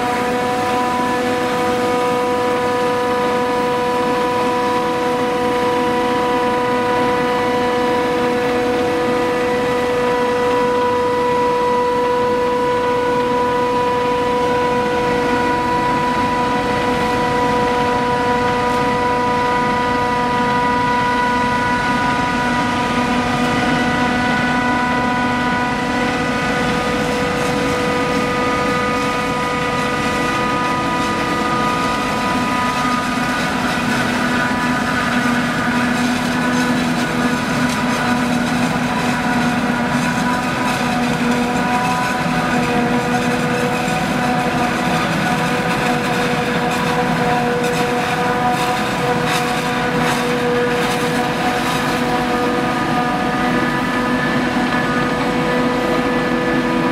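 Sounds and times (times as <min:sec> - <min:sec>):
harvester machine drone: 0:00.0 - 0:56.9
high machine whine: 0:00.0 - 0:56.9.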